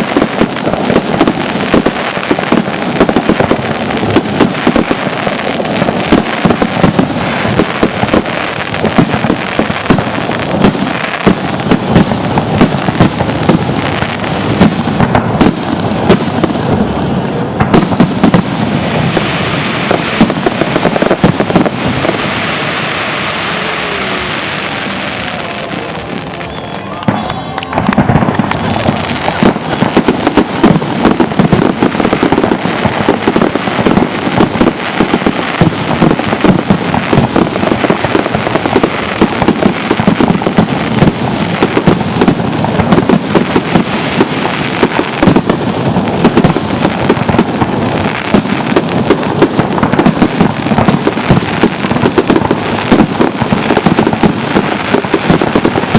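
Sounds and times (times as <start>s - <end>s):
barrage of firework bangs: 0.0s - 55.9s
firework crackle: 0.0s - 55.9s.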